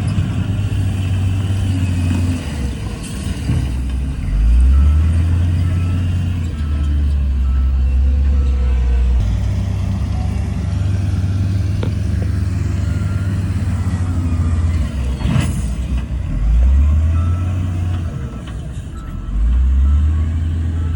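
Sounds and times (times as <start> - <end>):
heavy diesel engine droning: 0.0 - 20.9.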